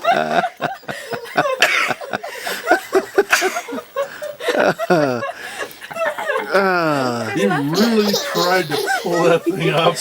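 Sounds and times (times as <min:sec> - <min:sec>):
people laughing: 0:00.0 - 0:10.0.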